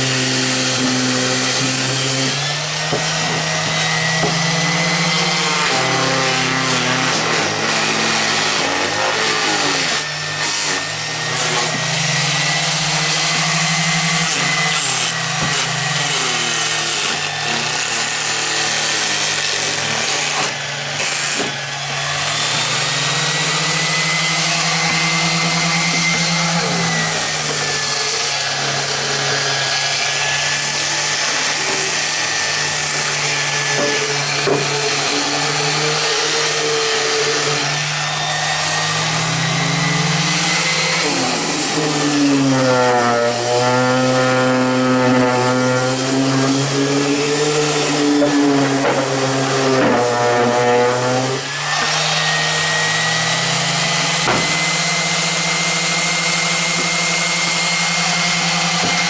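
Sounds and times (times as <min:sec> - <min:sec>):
orbital sander on wood: 0:00.0 - 0:59.0.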